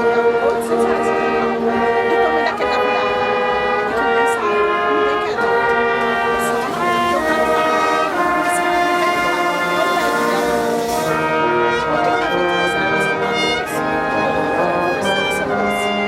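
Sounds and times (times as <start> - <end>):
brass chords: 0.0 - 16.0.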